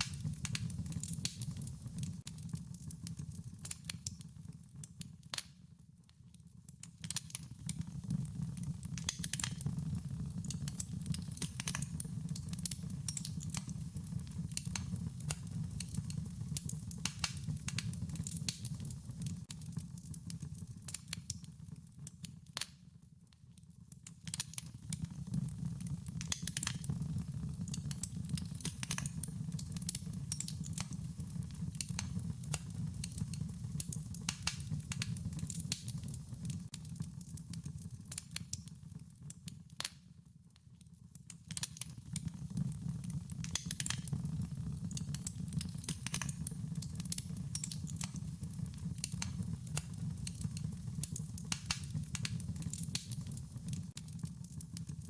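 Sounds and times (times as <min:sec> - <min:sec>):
wood fire crackling: 0:00.0 - 0:22.8, 0:23.9 - 0:40.0, 0:41.2 - 0:55.0.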